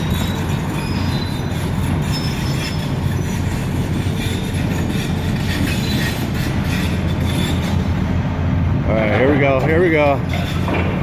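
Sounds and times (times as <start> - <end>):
metallic wheel squeals: 0.0 - 8.1, 9.9 - 11.0
train rumbling on rails: 0.0 - 11.0.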